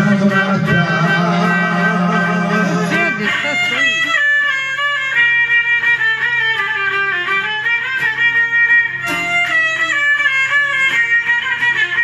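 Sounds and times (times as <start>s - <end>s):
strummed string accompaniment: 0.0s - 12.0s
violin folk melody: 0.0s - 12.0s.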